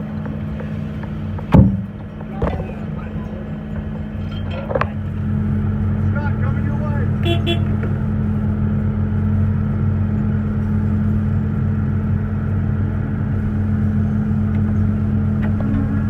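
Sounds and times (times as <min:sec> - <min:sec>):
large engine droning: 0:00.0 - 0:16.0.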